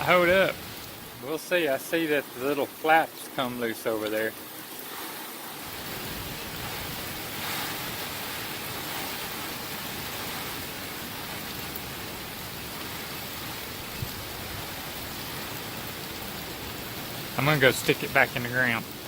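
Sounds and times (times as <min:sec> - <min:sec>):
gusting storm wind: 0:00.0 - 0:03.0, 0:04.6 - 0:19.0
heavy rain: 0:00.0 - 0:19.0.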